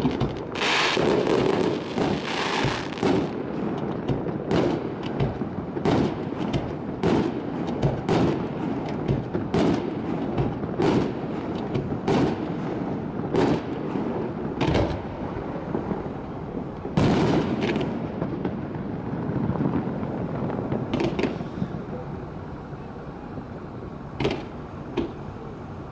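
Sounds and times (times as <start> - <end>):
firework shells bursting: 0.0 - 16.2, 16.8 - 21.8
firework crackle: 0.0 - 25.9.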